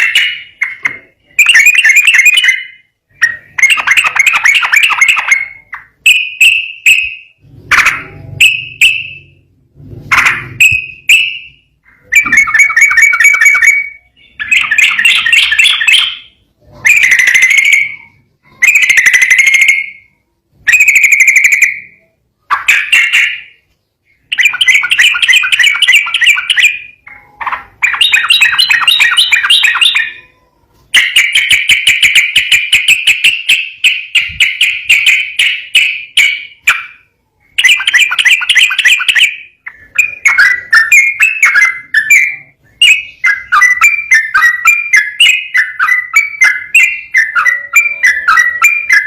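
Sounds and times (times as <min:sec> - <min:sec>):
bird singing chattering phrases: 0:00.0 - 0:09.4, 0:10.1 - 0:49.0.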